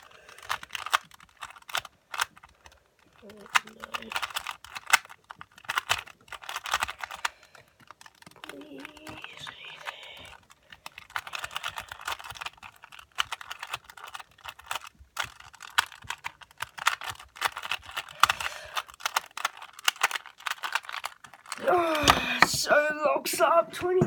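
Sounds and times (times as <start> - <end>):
puzzle cube clicking: 0.0 - 24.0.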